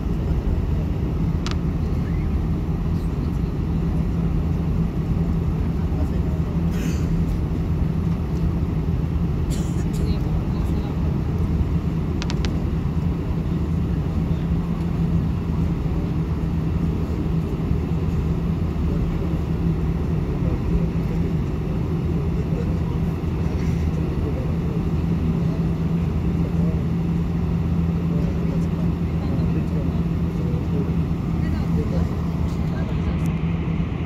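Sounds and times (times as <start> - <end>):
airliner engines droning in cabin: 0.0 - 34.0.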